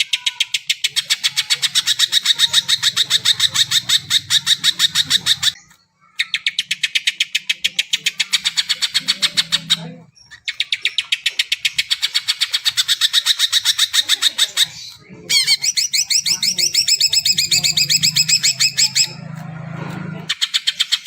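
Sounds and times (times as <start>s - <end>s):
bird singing fast trills: 0.0s - 19.3s.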